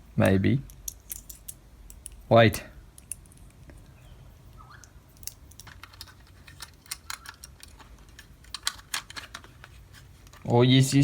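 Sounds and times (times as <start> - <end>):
clicks of small parts being handled: 0.6 - 3.9, 4.8 - 11.0.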